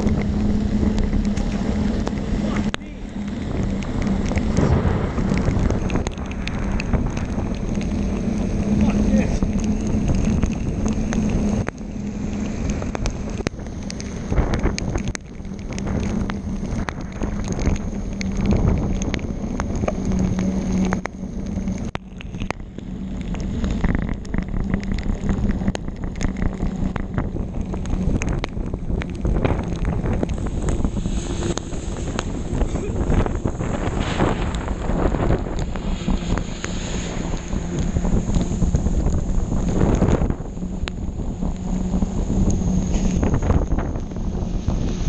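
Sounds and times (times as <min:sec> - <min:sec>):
heavy rain: 0:00.0 - 0:45.0
raindrops ticking on camera: 0:00.0 - 0:45.0
tyres hissing on wet road: 0:00.0 - 0:45.0
wind noise: 0:00.0 - 0:45.0.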